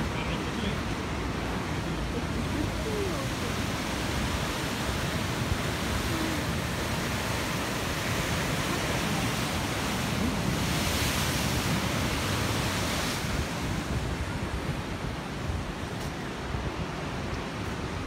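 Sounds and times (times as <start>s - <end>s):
sea surf breaking on rocks: 0.0s - 18.0s
wind on microphone: 1.1s - 18.0s.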